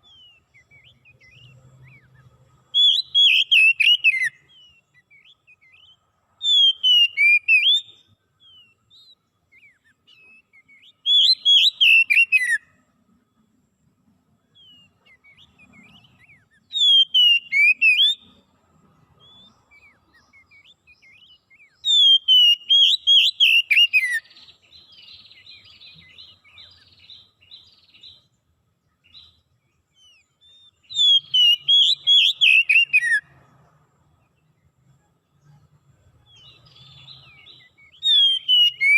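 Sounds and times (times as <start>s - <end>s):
songbird whistled phrases: 0.0s - 2.2s, 2.8s - 12.7s, 14.6s - 18.3s, 19.2s - 28.2s, 29.0s - 33.2s, 36.3s - 38.9s.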